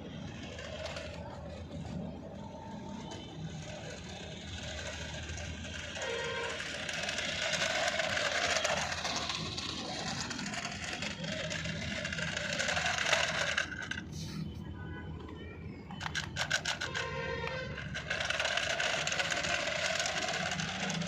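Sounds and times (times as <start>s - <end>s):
toy car motor whirring: 0.0s - 14.6s, 15.8s - 21.0s.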